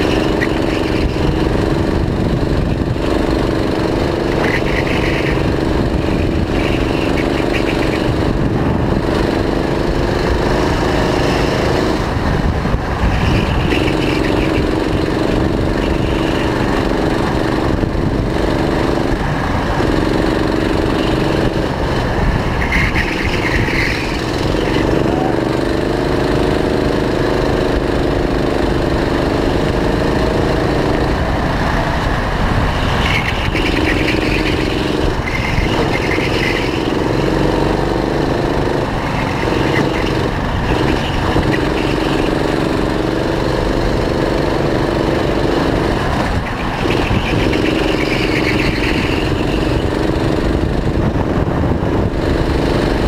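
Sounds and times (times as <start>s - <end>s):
go-kart engine running hard: 0.0s - 53.0s
steady rush of noise: 0.0s - 53.0s.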